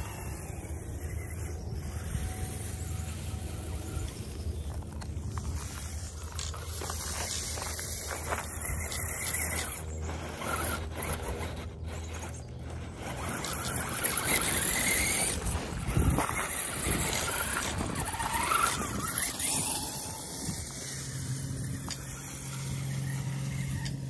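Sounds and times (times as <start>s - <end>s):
electric motor whining: 0.0s - 24.0s
tyres crunching over gravel: 0.0s - 24.0s.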